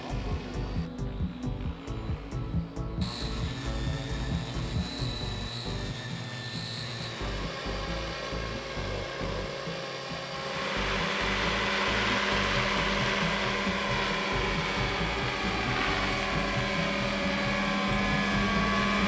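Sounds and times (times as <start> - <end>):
model helicopter motor and rotors: 0.0 - 19.0.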